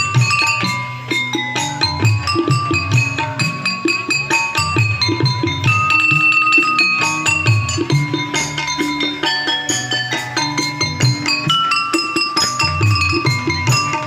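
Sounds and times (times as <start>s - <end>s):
keyboard: 0.0s - 14.0s
tabla: 0.0s - 14.0s
tuned bowls struck with sticks: 0.0s - 14.0s.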